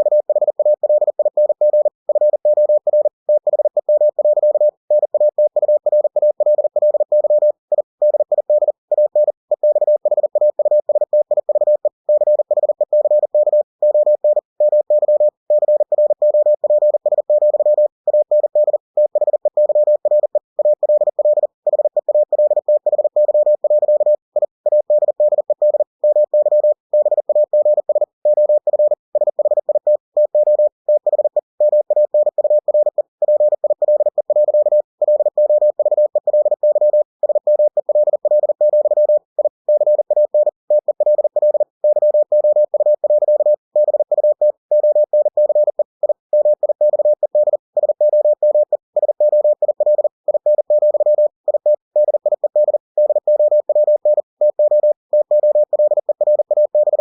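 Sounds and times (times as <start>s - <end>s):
morse code tone: 0.0s - 57.0s.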